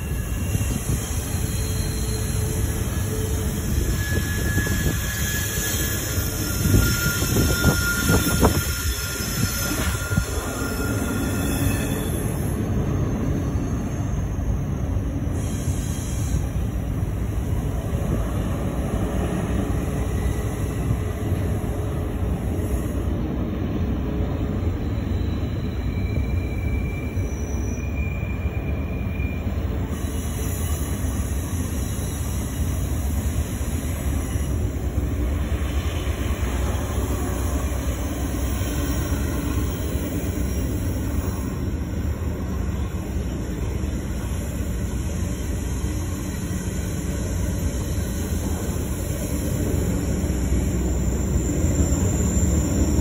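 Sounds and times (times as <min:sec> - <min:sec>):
high wheel squeal: 0:00.0 - 0:23.1, 0:24.2 - 0:53.0
train wheels rumbling on rails: 0:00.0 - 0:53.0.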